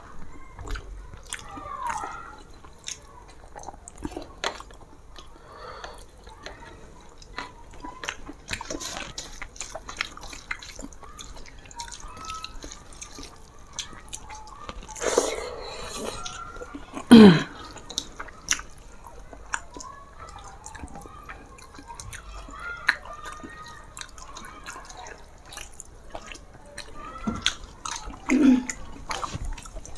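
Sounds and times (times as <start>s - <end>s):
person eating with fingers: 0.6s - 29.9s.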